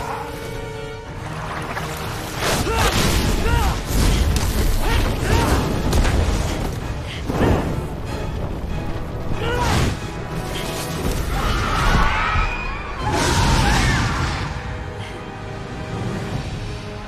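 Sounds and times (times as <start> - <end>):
dramatic film score: 0.0 - 17.0.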